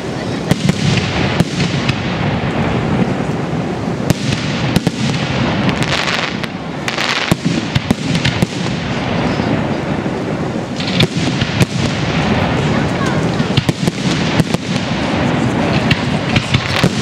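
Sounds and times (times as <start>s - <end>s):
continuous rumble: 0.0s - 17.0s
fireworks bursting with bangs: 0.0s - 17.0s
fireworks hissing and crackling: 0.0s - 17.0s.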